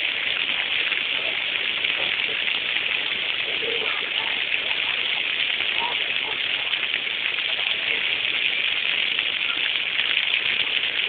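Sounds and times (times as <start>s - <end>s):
waterfall hiss: 0.0s - 11.0s.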